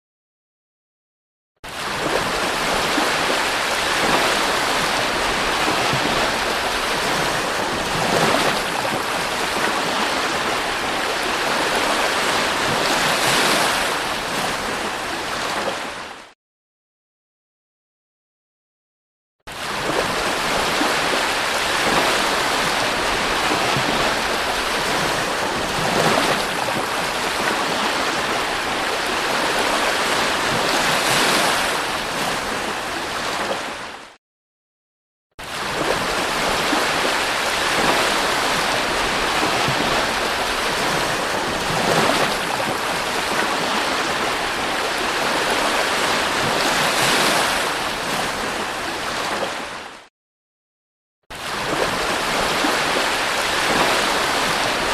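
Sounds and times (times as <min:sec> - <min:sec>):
sea waves breaking on a beach: 0:01.7 - 0:16.4, 0:19.5 - 0:34.2, 0:35.4 - 0:50.1, 0:51.3 - 0:54.9.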